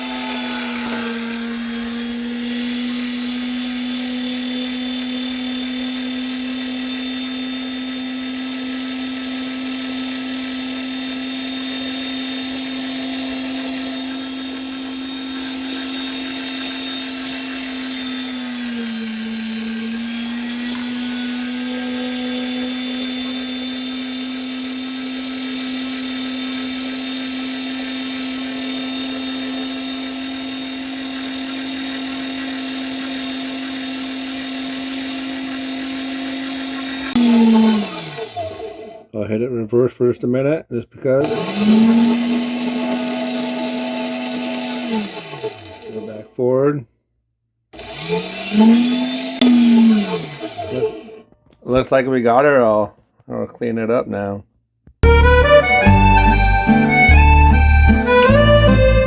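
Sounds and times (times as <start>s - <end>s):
electric meat grinder humming: 0.0s - 39.1s, 41.2s - 46.2s, 47.8s - 51.4s, 55.0s - 59.0s.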